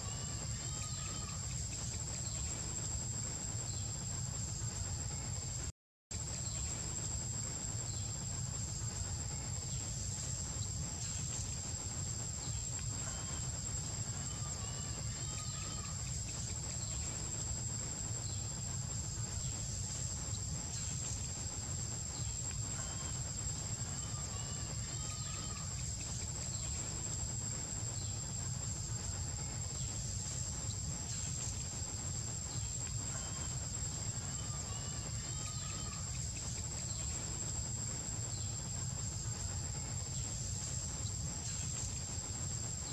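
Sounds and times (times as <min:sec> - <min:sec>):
high-pitched insect drone: 0:00.0 - 0:42.9.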